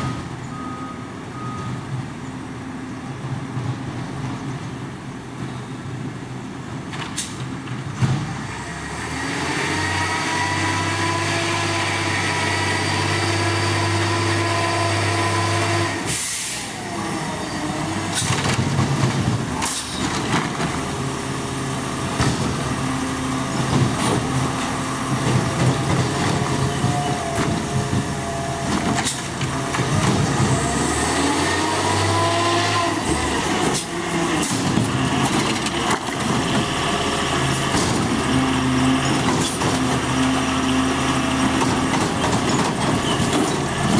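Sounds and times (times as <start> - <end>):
diesel engine revving: 8.2 - 43.9.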